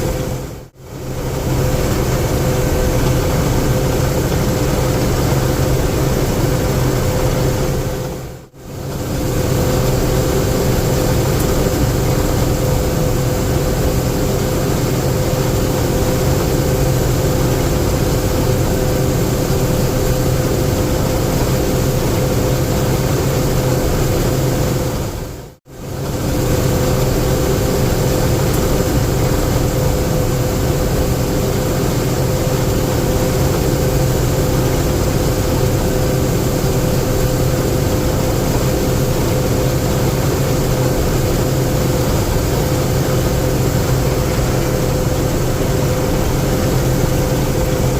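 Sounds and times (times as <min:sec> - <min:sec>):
combine harvester drone: 0:00.0 - 0:47.9.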